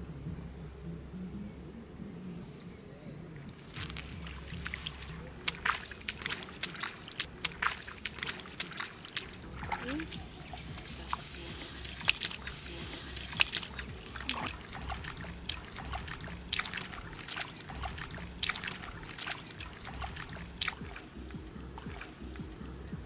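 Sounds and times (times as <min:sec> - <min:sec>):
water trickling: 0:03.3 - 0:23.0
feet splashing through water: 0:03.5 - 0:23.0.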